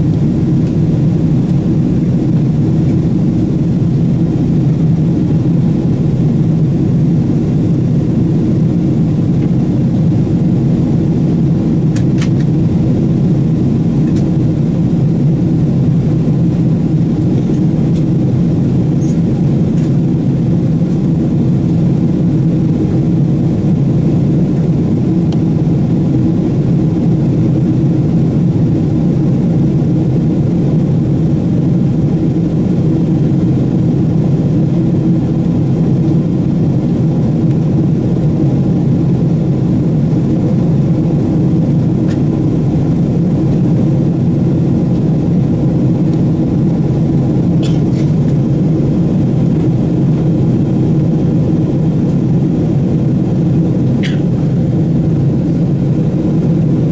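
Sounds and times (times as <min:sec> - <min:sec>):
airplane cabin drone: 0:00.0 - 0:56.9.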